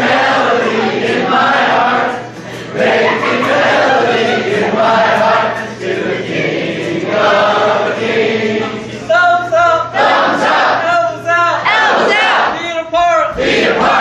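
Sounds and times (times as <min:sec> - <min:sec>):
group singing in chorus: 0:00.0 - 0:09.2, 0:09.8 - 0:10.9, 0:11.6 - 0:12.6, 0:13.3 - 0:14.0.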